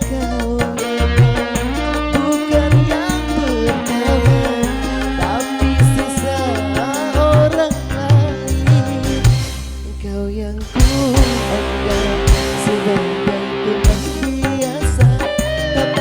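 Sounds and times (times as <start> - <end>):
live band instrumental: 0.0 - 10.0, 10.7 - 16.0.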